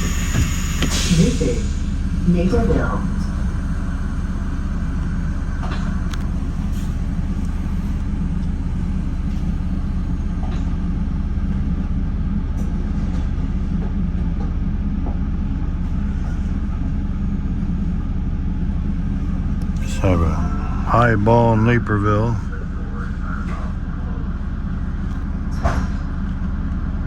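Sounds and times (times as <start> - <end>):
stopped train rumble and hum: 0.0 - 27.0.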